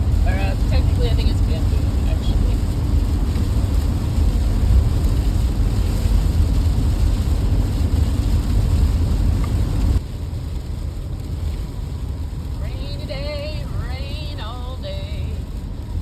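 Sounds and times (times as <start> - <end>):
van rumbling from inside cabin: 0.0 - 16.0.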